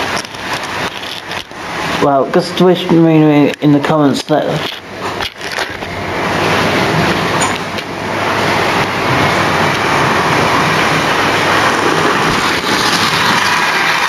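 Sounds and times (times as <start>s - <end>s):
model train rumbling on rails: 0.0s - 14.0s.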